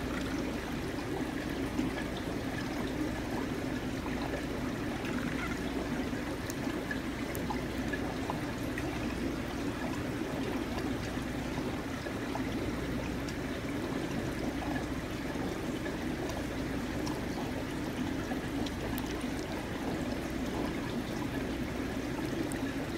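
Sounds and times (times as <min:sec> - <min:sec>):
small water drips: 0:00.0 - 0:22.9
water trickling: 0:00.0 - 0:22.9.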